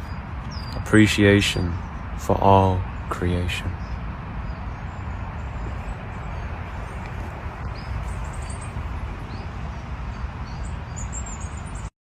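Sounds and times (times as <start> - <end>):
steady rumbling hiss: 0.0 - 11.9.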